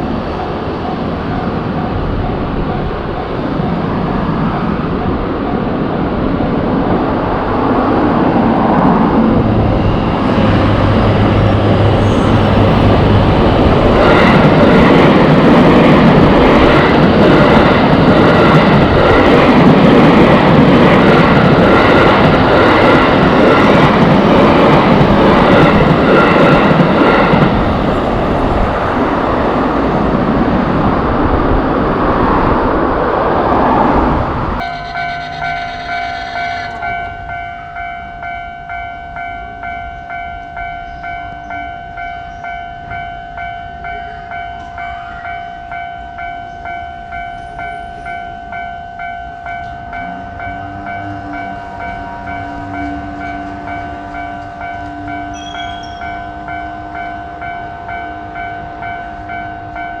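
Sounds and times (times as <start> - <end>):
railroad crossing warning bell: 0.0 - 30.1, 34.6 - 60.0
train passing with loud rush: 0.0 - 60.0.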